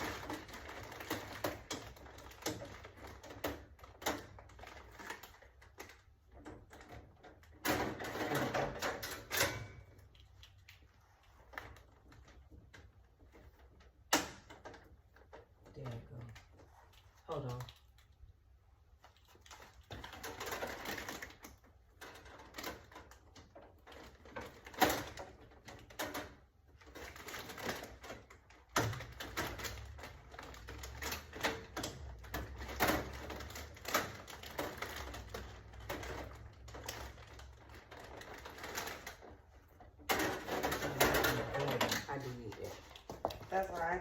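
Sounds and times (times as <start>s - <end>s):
clicking and rattling of small parts: 0.0s - 44.0s.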